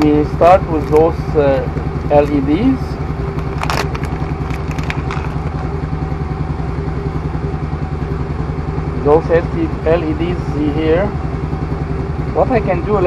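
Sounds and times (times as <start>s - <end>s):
engine idling with pulsing beat: 0.0s - 13.0s.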